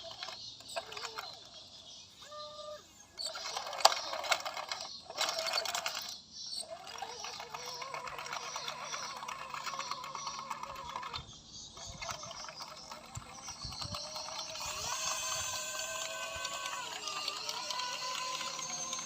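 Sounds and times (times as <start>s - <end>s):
clicking rattle of tracks: 0.0s - 2.0s, 3.2s - 19.0s
toy bulldozer motors whining: 0.0s - 19.0s.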